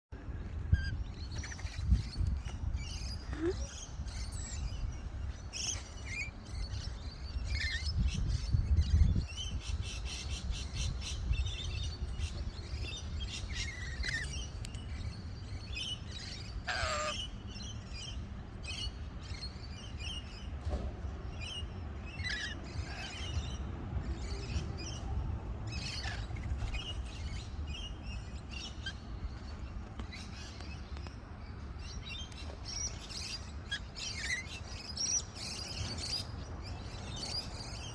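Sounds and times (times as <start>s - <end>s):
lorikeets screechy chirps: 0.7s - 20.5s, 21.4s - 25.0s, 25.7s - 30.9s, 31.9s - 37.9s.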